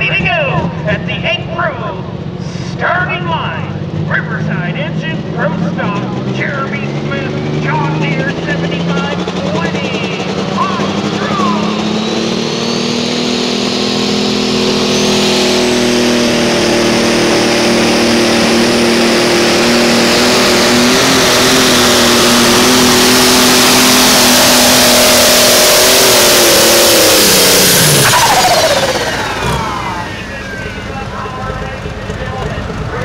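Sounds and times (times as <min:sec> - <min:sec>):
high engine whine: 0:00.0 - 0:33.0
pulling tractor engine drone: 0:00.0 - 0:33.0.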